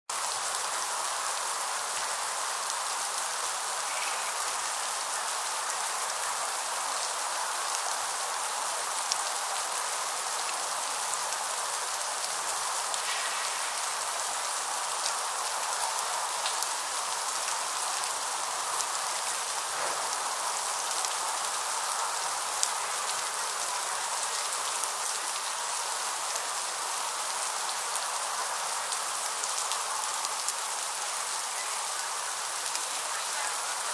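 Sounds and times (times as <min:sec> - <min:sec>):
freezing rain falling: 0:00.1 - 0:33.9.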